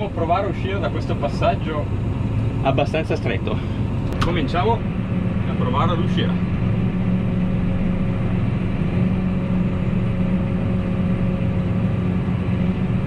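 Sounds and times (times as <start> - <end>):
tractor diesel engine hum: 0.0 - 13.0.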